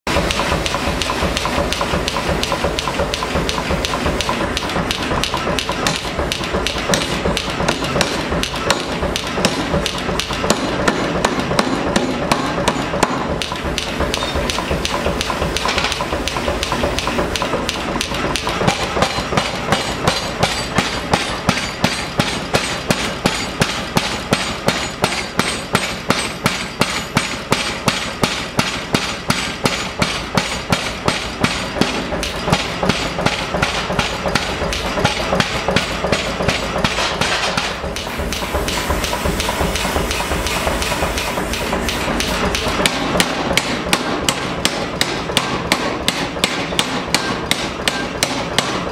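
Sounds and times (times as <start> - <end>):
power hammer striking steel: 0.1 - 48.9.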